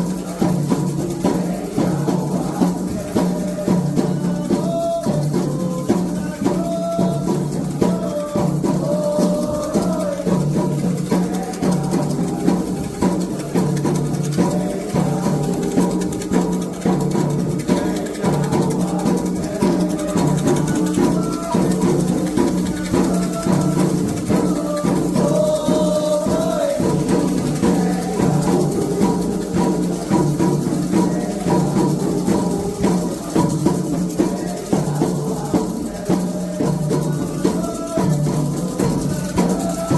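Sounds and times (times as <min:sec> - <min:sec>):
hand drums: 0:00.0 - 0:39.9
rattling percussion: 0:00.0 - 0:39.9
voices singing a chant: 0:00.0 - 0:39.9.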